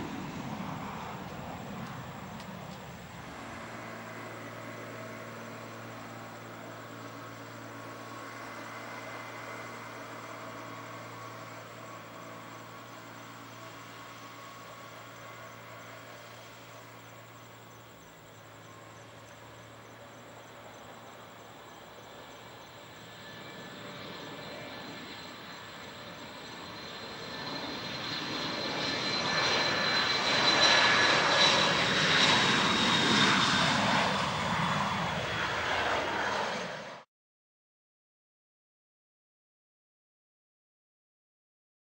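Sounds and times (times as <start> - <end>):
high jet whine: 0.0 - 37.0
jet taking off: 0.0 - 37.0.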